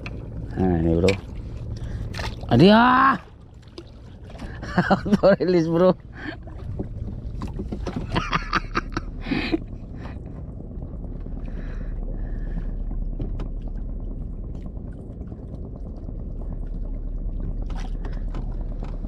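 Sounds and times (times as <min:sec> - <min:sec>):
boat rumble and water wash: 0:00.0 - 0:19.0.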